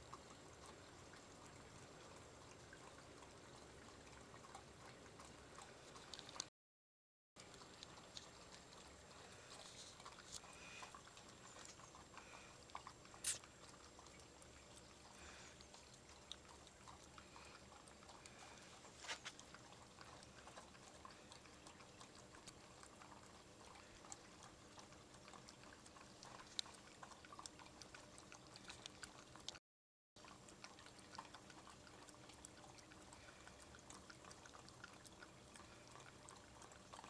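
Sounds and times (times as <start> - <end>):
puppy licking and lapping: 0.0 - 6.5, 7.4 - 29.6, 30.2 - 37.0.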